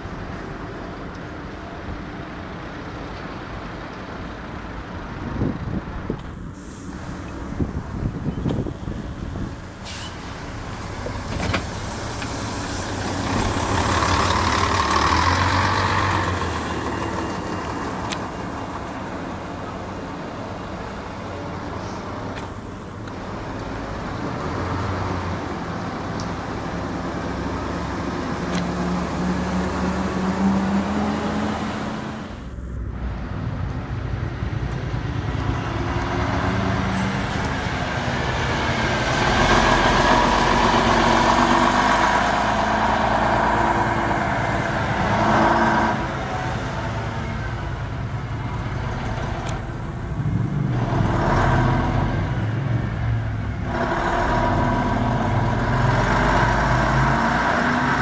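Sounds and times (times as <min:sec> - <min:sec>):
diesel bus engines: 0:00.0 - 0:58.0
double-decker bus engine: 0:00.0 - 0:58.0.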